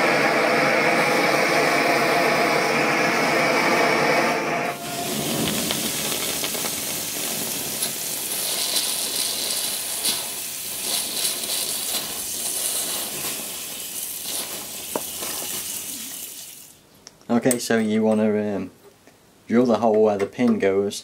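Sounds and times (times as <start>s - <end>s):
water sizzling on hot metal: 0.0s - 16.8s.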